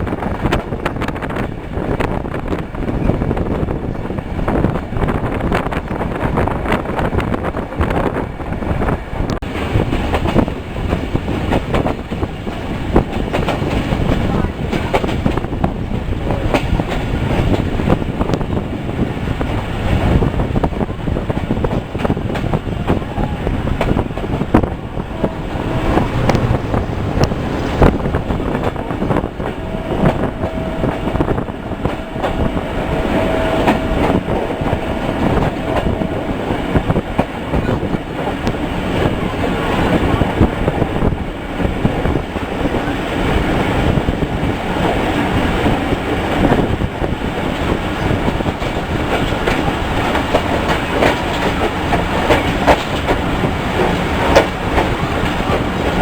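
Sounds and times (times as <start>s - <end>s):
train running rumble: 0.0s - 56.0s
wheels clacking over rail joints: 9.4s - 56.0s.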